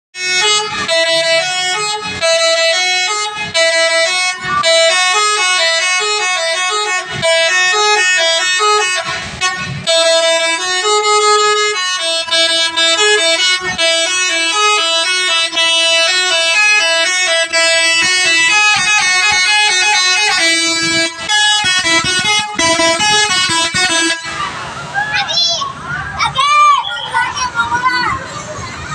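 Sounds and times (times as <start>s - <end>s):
bus horn playing melody: 0.2s - 24.9s.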